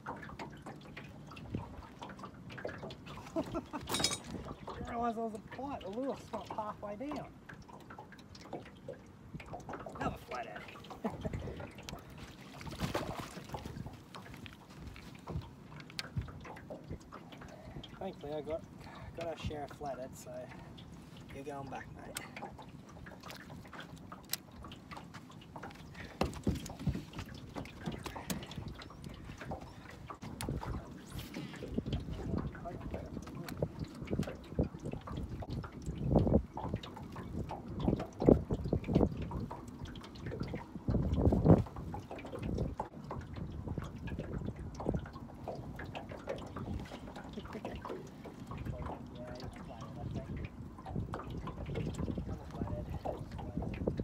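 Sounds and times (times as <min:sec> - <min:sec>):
water lapping against boat hull: 0:00.0 - 0:54.0
clicks and knocks on hull: 0:05.9 - 0:18.0, 0:22.0 - 0:54.0.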